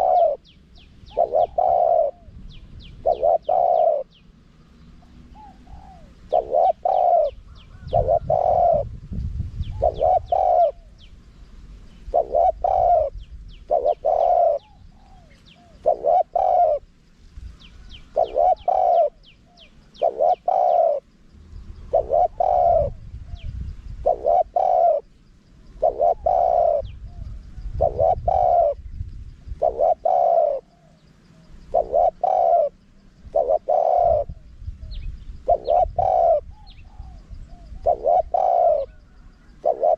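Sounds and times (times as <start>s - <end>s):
dove cooing: 0.0s - 9.0s, 9.6s - 11.1s, 12.1s - 17.0s, 17.8s - 21.1s, 21.8s - 28.9s, 29.5s - 39.9s
small birds chirping: 0.0s - 39.9s.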